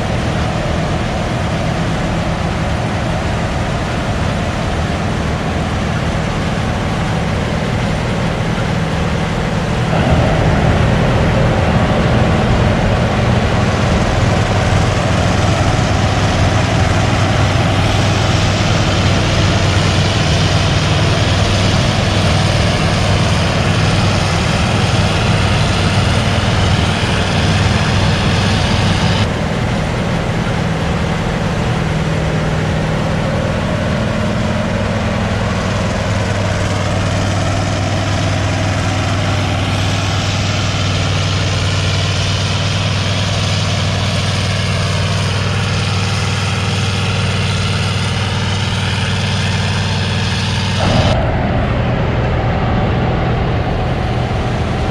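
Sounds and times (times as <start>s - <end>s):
heavy diesel engine humming: 0.0s - 54.9s.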